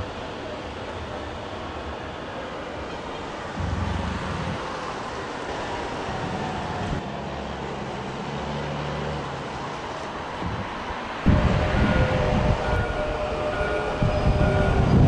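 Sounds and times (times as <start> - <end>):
wind gusting on microphone: 0.0 - 7.1, 10.0 - 15.0
city traffic noise: 0.0 - 15.0
tram passing with whine: 0.0 - 15.0.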